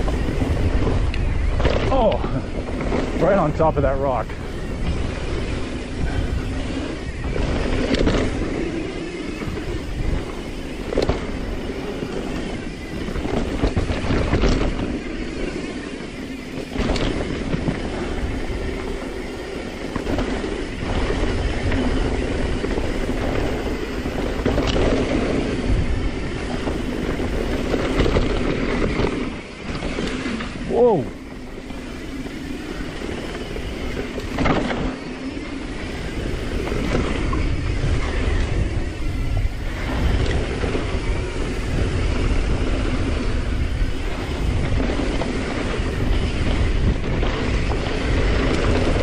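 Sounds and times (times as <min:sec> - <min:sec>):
bike knocking and rattling: 0:00.0 - 0:49.0
tyre noise on dirt trail: 0:00.0 - 0:49.0
wind rumble on microphone: 0:00.0 - 0:49.0.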